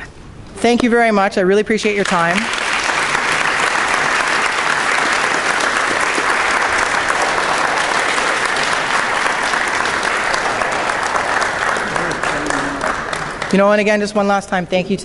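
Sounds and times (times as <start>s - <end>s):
audience applauding: 2.0s - 14.1s.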